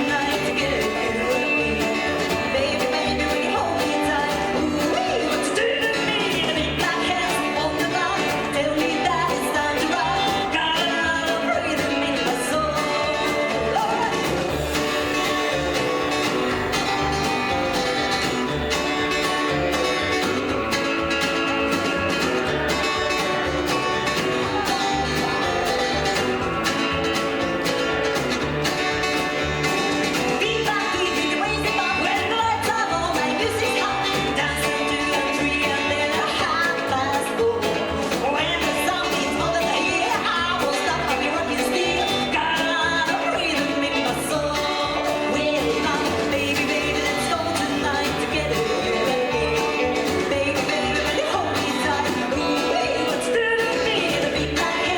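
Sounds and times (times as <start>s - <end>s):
person singing: 0.0s - 27.3s, 28.7s - 54.9s
rockabilly band playing: 0.0s - 54.9s.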